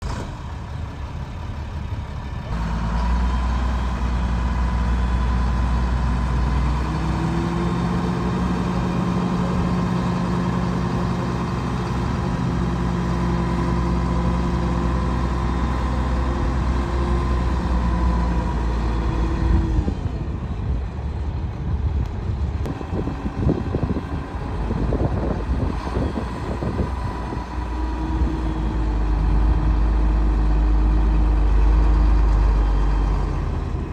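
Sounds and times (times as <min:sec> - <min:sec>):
truck diesel engine running: 0:00.0 - 0:33.9.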